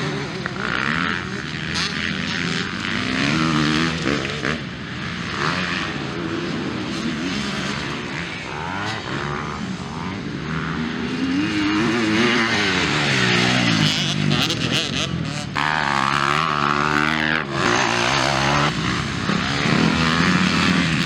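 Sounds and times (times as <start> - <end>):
motocross motorcycle engines racing: 0.0 - 21.0.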